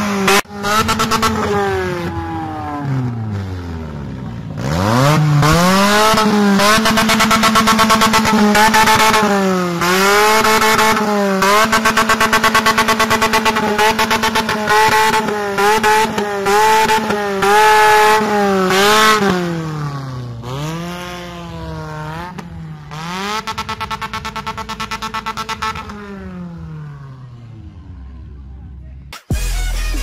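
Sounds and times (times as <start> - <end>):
car engine revving at limiter: 0.0 - 28.0.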